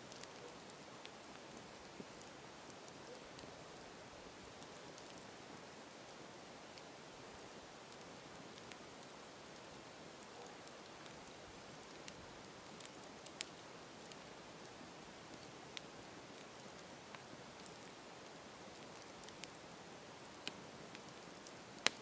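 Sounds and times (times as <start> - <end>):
campfire crackling and popping: 0.0 - 22.0
faint fire hiss: 0.0 - 22.0.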